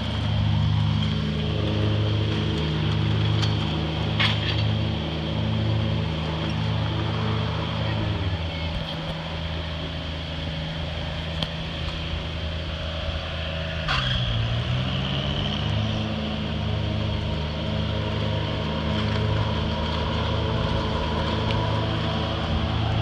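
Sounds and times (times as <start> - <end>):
van engine hum: 0.0 - 23.0.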